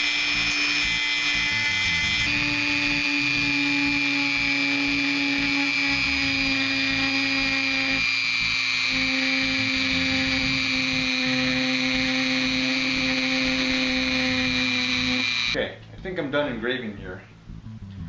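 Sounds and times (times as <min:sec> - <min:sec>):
rotary tool whining: 0:00.0 - 0:15.6.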